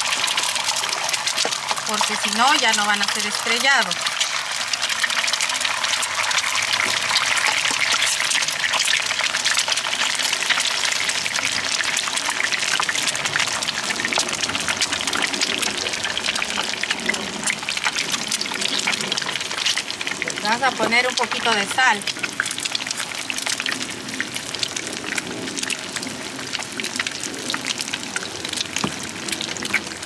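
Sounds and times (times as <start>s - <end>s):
eggs sizzling in hot oil: 0.0s - 30.0s.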